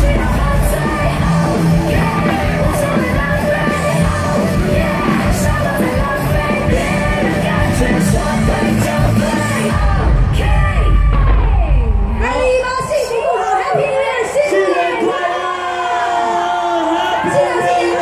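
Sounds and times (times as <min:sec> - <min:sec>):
crowd yelling: 0:00.0 - 0:18.0
loud music with singing: 0:00.0 - 0:18.0.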